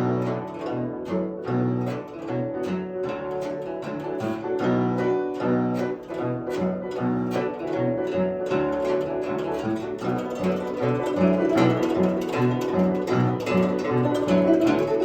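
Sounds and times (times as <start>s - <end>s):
zither plucked notes: 0.0s - 15.0s.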